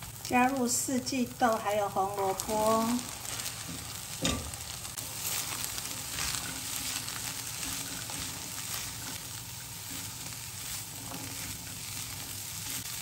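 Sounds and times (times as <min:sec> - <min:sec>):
vegetables sizzling in hot oil: 0:00.0 - 0:13.0
spatula scraping pan: 0:02.1 - 0:13.0.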